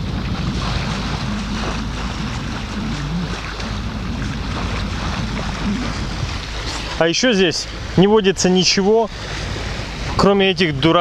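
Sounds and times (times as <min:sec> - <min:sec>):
water rushing along boat bow: 0:00.0 - 0:11.0
wind buffeting microphone: 0:00.0 - 0:11.0.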